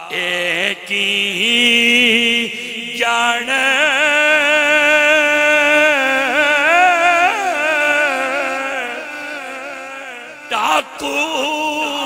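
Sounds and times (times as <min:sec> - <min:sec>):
man chanting with vibrato: 0:00.0 - 0:12.0.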